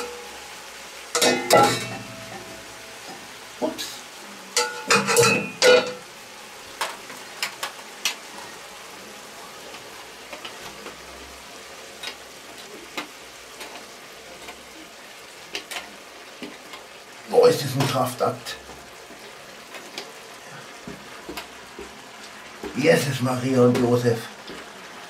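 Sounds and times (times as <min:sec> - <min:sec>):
food sizzling in a pot: 0:00.0 - 0:25.0.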